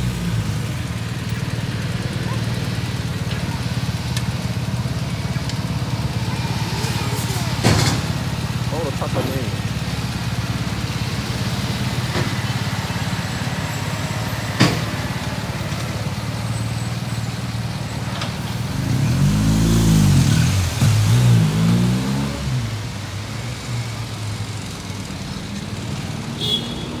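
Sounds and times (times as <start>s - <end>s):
engine revving: 0.0s - 27.0s
heavy diesel truck engine: 0.0s - 27.0s
motorcycles passing: 0.0s - 27.0s.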